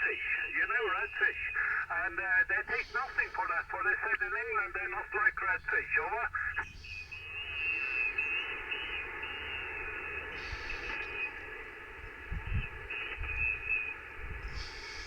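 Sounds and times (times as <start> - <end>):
faint warbling whistles: 0.0 - 1.8, 2.6 - 4.4, 6.4 - 15.0
radio receiver hiss: 0.0 - 15.0.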